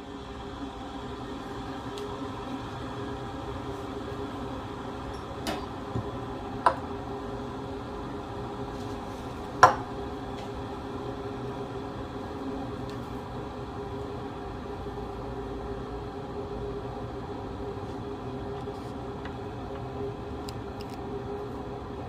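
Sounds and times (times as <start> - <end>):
electric kettle humming: 0.0 - 22.0.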